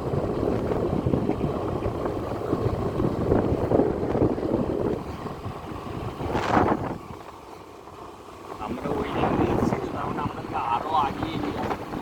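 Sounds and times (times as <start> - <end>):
wind buffeting microphone: 0.0 - 7.7, 8.4 - 12.0.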